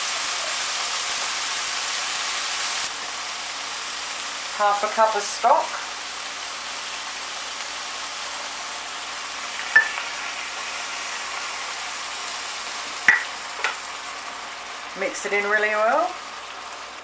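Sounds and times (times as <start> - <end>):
sauce sizzling in a frying pan: 0.0 - 17.0.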